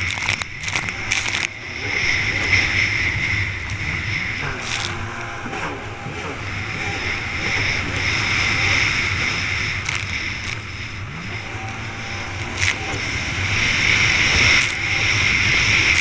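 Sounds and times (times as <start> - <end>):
jet ski engine: 0.0 - 16.0
wind and spray noise: 0.0 - 16.0.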